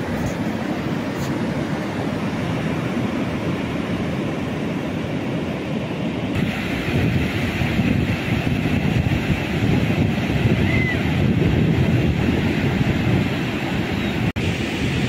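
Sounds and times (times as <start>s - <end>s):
surf breaking on a beach: 0.0s - 15.0s
wind buffeting the microphone: 0.0s - 15.0s.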